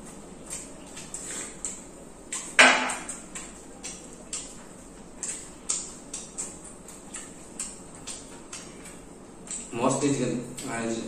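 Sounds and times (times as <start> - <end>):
chewing: 0.0 - 9.8.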